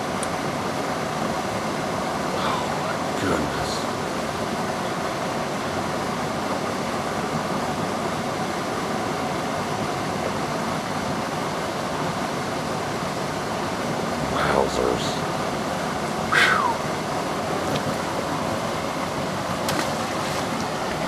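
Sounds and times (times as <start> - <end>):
water rushing over spillway: 0.0 - 21.0.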